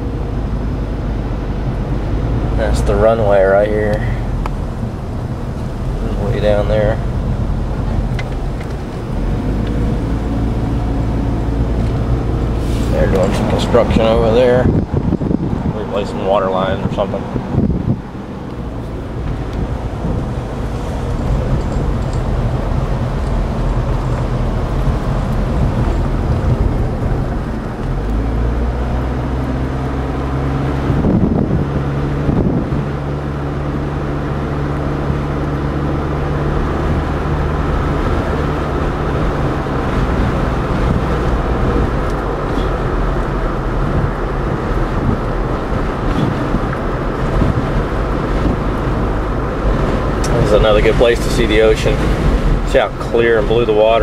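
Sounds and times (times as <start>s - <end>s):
car engine hum: 0.0s - 54.0s
road noise: 0.0s - 54.0s
wind on microphone: 4.0s - 54.0s.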